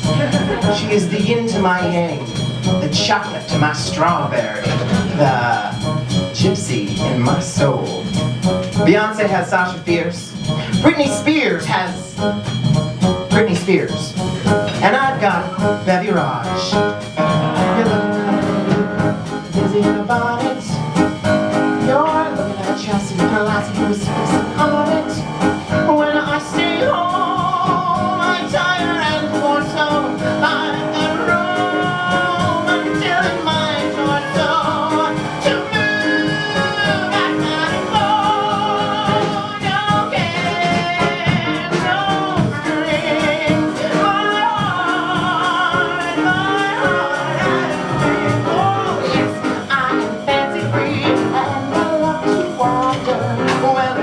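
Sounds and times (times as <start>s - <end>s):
person singing with vibrato: 0.0s - 12.6s, 13.3s - 54.0s
jazz accompaniment: 0.0s - 54.0s.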